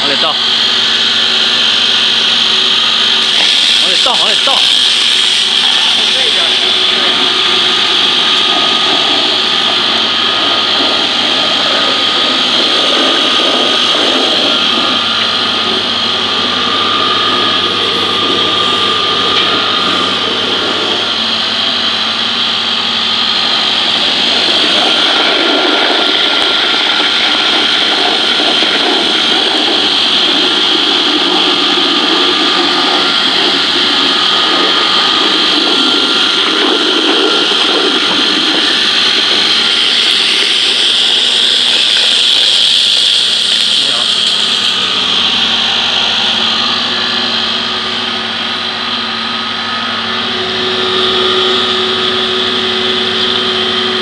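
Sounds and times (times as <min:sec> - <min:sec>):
grinding mill motor whine: 0:00.0 - 0:54.0.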